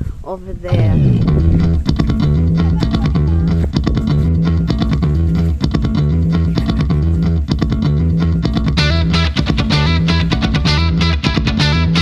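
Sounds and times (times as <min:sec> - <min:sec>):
guitar and bass music with beat: 0:00.7 - 0:12.0.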